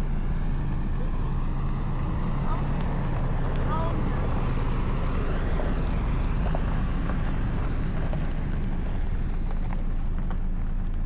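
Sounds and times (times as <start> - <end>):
car rolling low rumble: 0.0 - 11.0.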